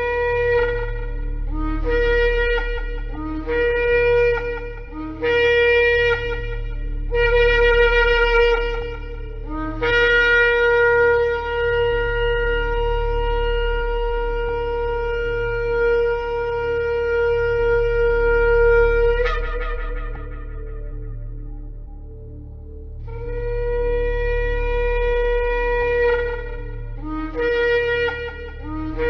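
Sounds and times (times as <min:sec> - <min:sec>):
shofar blasts: 0:00.0 - 0:29.0
steady low hum: 0:00.0 - 0:29.0.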